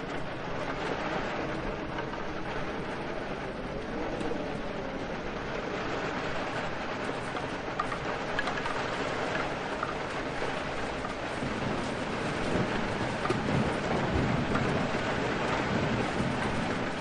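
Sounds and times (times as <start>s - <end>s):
rain falling: 0.0s - 17.0s
sharp raindrop ticks: 0.0s - 17.0s.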